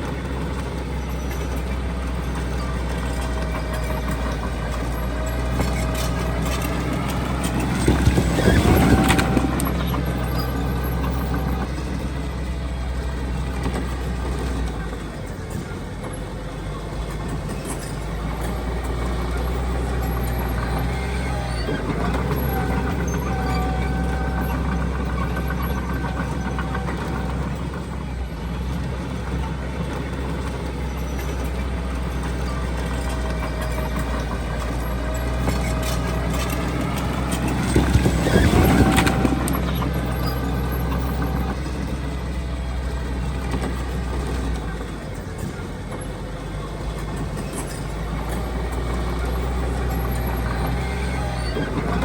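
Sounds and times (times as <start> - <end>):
diesel construction machinery: 0.0 - 52.0.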